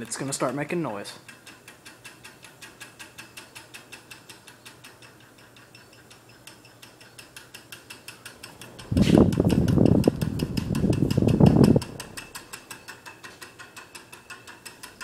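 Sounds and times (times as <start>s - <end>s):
ceiling fan rapid clicking: 0.0s - 15.0s
faint fan motor hum: 0.0s - 15.0s.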